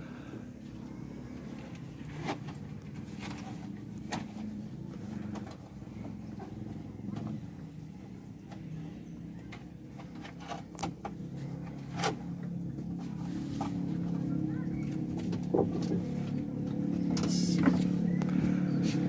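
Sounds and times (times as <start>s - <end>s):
motor running: 0.2s - 19.0s.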